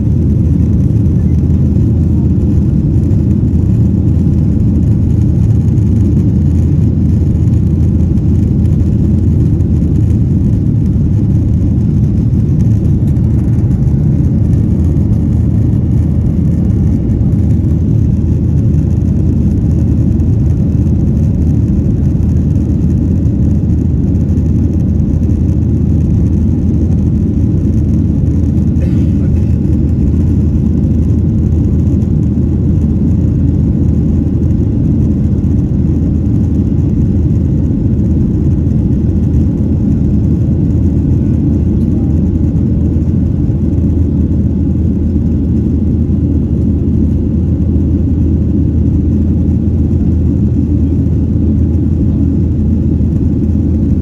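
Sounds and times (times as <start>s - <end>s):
jet engines roaring: 0.0s - 54.0s
rushing airflow: 0.0s - 54.0s.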